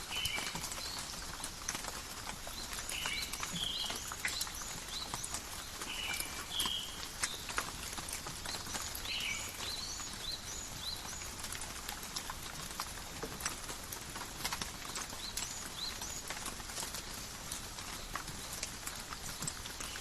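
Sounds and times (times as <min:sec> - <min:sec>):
rain drops ticking on leaves: 0:00.0 - 0:20.0.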